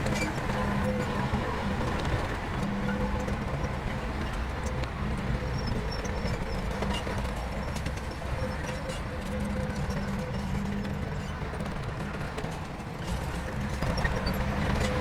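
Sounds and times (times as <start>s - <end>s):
diesel machinery engine running: 0.0s - 15.0s.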